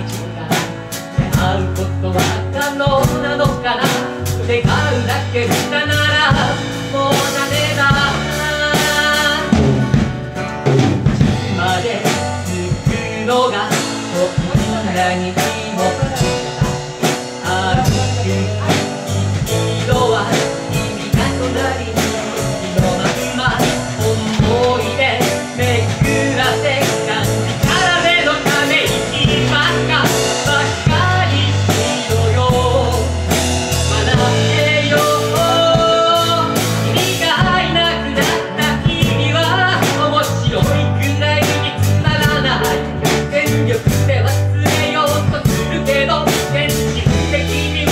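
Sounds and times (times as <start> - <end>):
acoustic guitar: 0.0 - 47.9
bass notes: 0.0 - 47.9
drum kit beat: 0.0 - 47.9
keyboard: 0.0 - 47.9.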